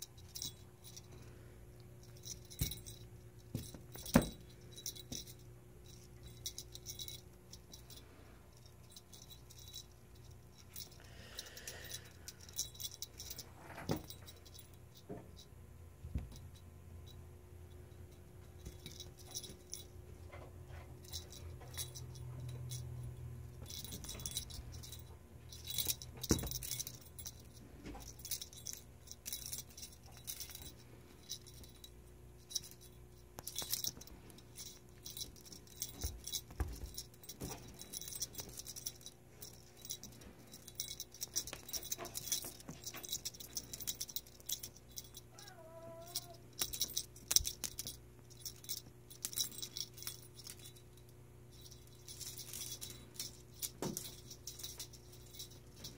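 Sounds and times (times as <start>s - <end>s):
cat toy jingling and rattling: 0.0s - 15.6s, 16.2s - 55.9s.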